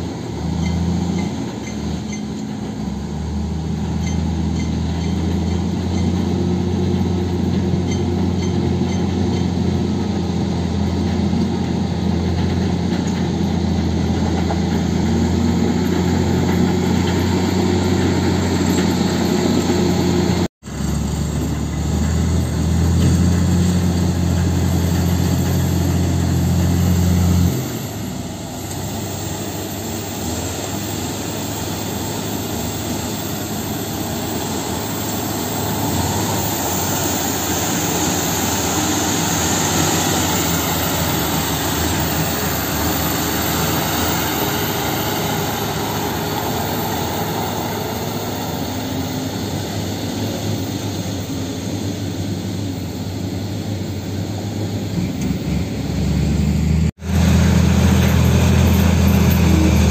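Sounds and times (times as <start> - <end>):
deep diesel engine drone: 0.0 - 59.9
noisy engine sound: 0.0 - 59.9.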